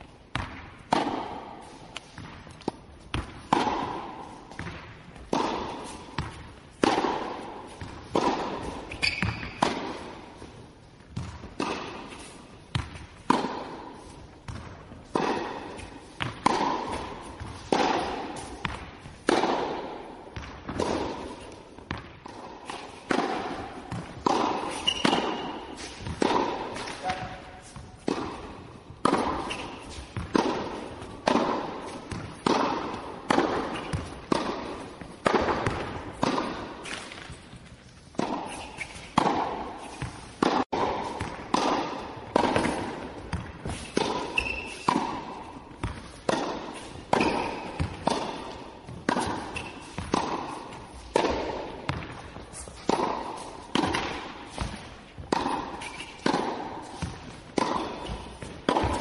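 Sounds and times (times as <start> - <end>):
racquet hitting tennis ball: 0.0 - 59.0
tennis ball bouncing on court: 0.0 - 59.0.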